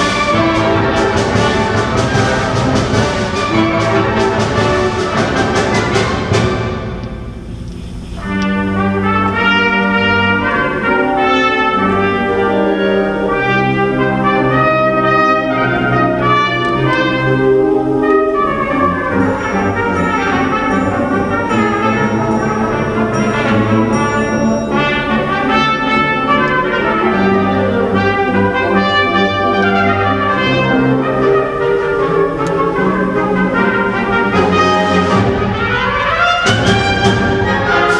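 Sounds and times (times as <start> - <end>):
trumpet melody: 0.0 - 37.9
wind band playing: 0.0 - 37.9.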